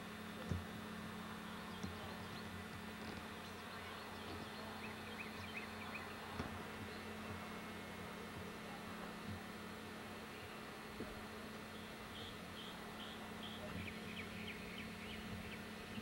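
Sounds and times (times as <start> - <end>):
steady low buzz: 0.0 - 16.0.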